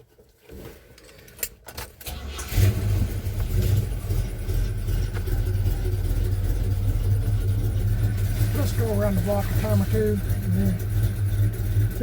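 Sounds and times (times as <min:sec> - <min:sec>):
truck engine running: 0:02.3 - 0:12.0.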